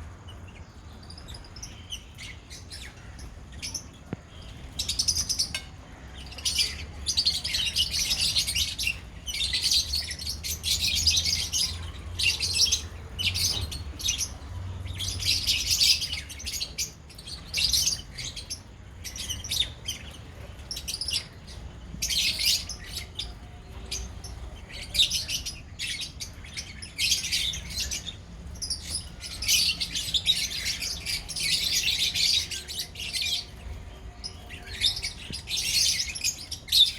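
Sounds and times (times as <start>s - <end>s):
lovebirds chirping and chattering: 0.0s - 36.9s.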